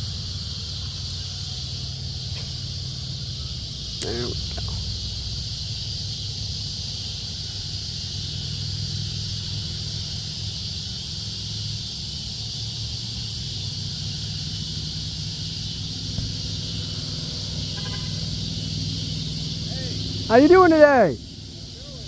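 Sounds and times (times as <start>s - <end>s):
high-pitched hiss: 0.0s - 22.0s
low engine hum: 0.0s - 22.0s.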